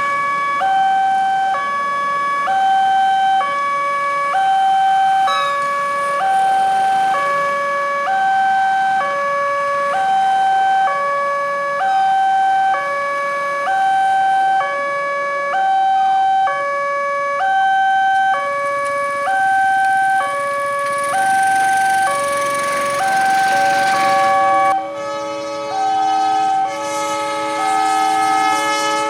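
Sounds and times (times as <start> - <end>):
level crossing two-tone alarm: 0.0 - 28.8.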